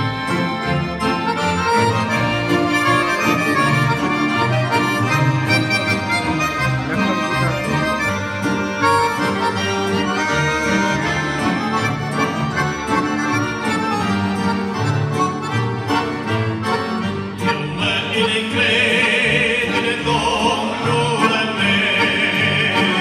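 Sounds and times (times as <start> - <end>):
accordions playing melody: 0.0 - 23.0.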